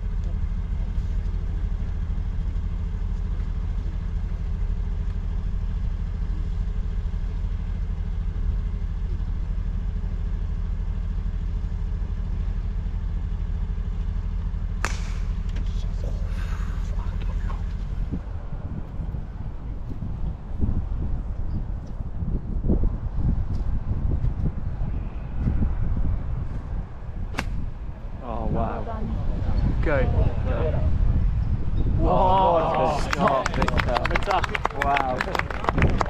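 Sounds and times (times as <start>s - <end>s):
low engine hum: 0.0s - 36.0s.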